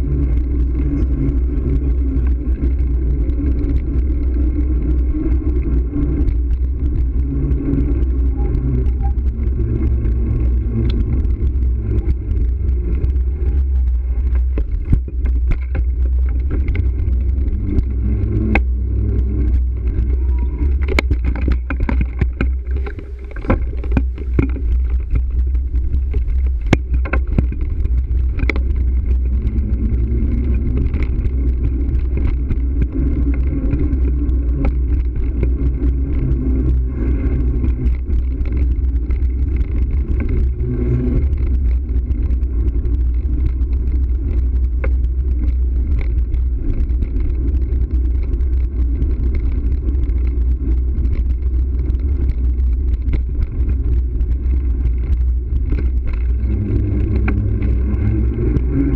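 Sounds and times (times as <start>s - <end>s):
bike clicks and knocks over bumps: 0.0s - 58.9s
wind and road rumble: 0.0s - 58.9s.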